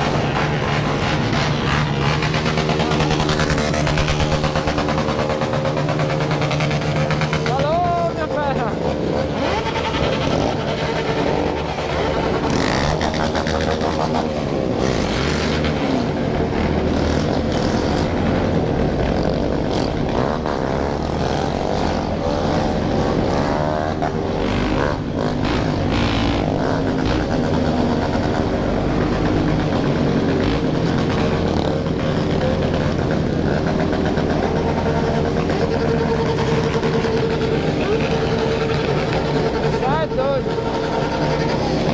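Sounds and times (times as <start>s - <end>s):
motorcycle engines droning: 0.0s - 41.9s
motorcycles revving: 0.0s - 41.9s.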